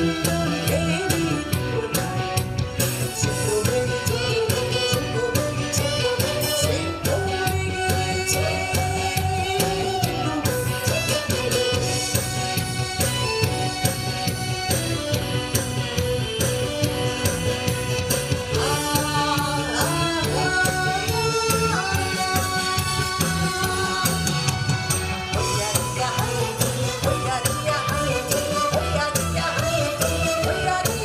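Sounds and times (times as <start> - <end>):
woman singing: 0.0 - 13.6, 18.5 - 31.0
drum and percussion beat: 0.0 - 31.0.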